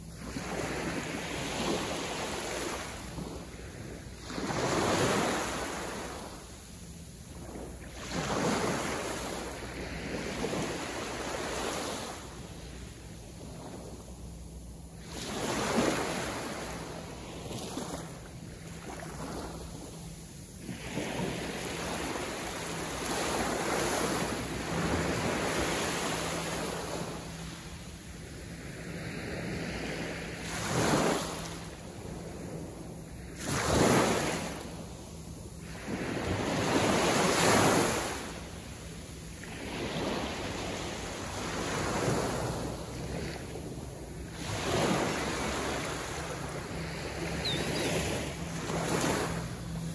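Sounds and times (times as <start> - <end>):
small waves breaking on sand: 0.0 - 14.2, 15.0 - 49.9.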